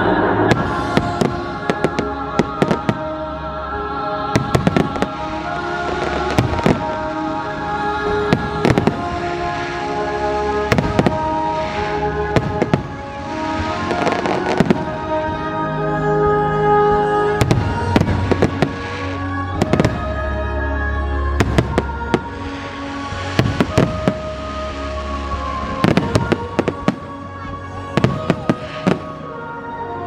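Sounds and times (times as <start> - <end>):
music playing: 0.0 - 30.0
fireworks bangs: 0.4 - 3.2, 4.3 - 15.4, 17.4 - 20.3, 21.4 - 29.4.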